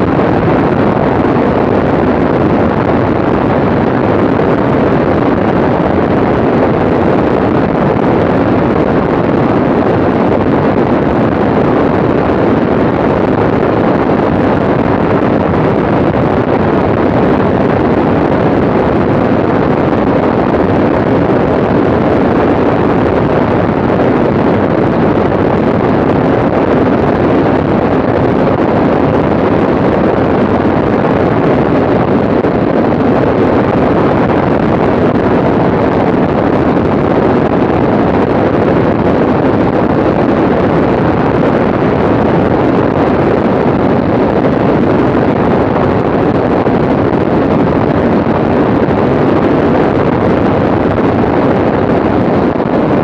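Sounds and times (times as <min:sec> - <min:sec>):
aircraft engine drone: 0:00.0 - 0:53.0
wind rushing over microphone: 0:00.0 - 0:53.0.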